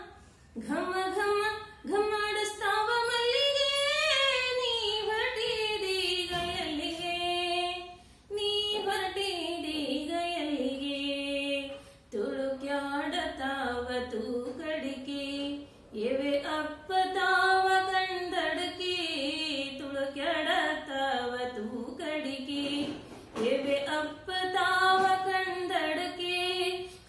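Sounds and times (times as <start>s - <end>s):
woman singing unaccompanied: 0.0s - 27.0s.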